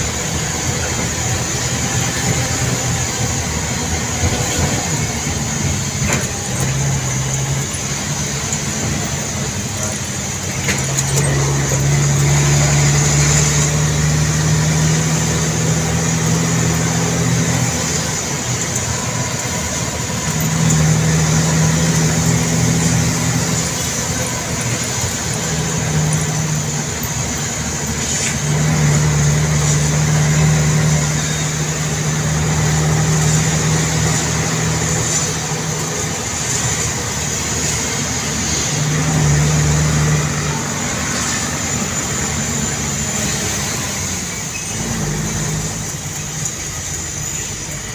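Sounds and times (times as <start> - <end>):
road noise: 0.0 - 47.9
vehicle engine drone: 0.0 - 47.9.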